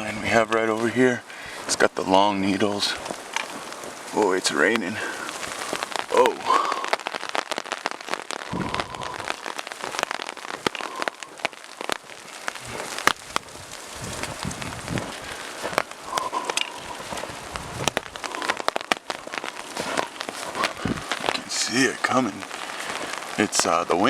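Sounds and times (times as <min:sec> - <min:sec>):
low rumbles of wind: 0:00.0 - 0:24.0
rain drops ticking: 0:00.0 - 0:24.0.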